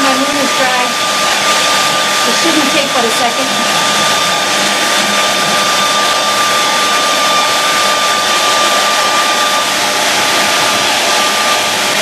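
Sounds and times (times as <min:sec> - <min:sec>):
hair dryer blowing with whine: 0:00.0 - 0:12.0.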